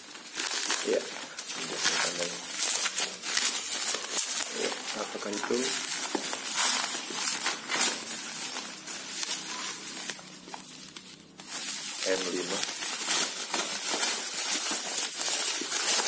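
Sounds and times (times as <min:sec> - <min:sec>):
plastic wrap crinkling: 0:00.0 - 0:16.0.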